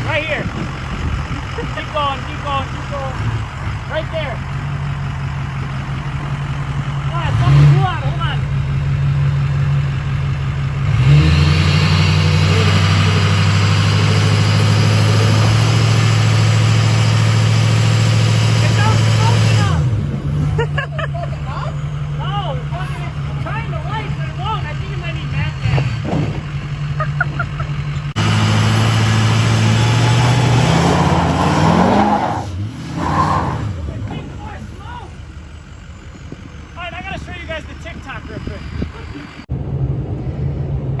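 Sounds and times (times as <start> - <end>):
truck engine running: 0.0 - 41.0.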